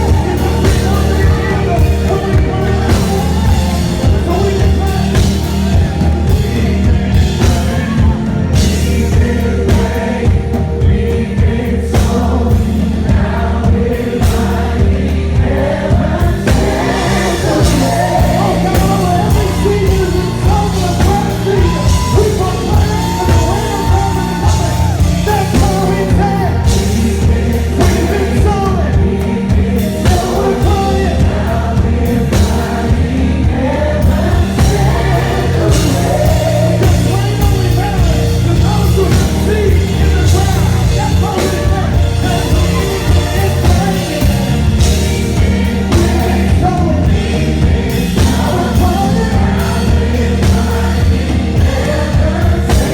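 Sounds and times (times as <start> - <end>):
gospel band playing: 0.0 - 52.9
voices singing: 0.0 - 52.9.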